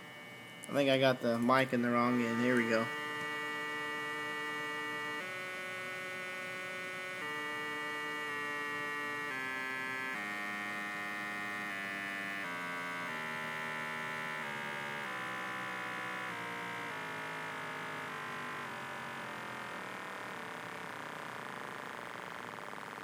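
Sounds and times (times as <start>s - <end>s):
coil buzzing hum stepping in pitch: 0.0s - 23.0s.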